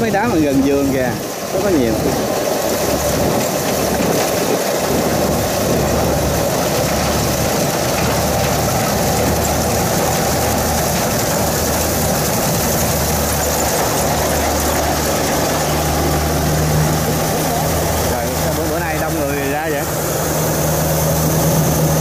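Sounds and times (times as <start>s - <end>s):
clatter of threshing gear: 0.0s - 22.0s
combine harvester engine running: 0.0s - 22.0s.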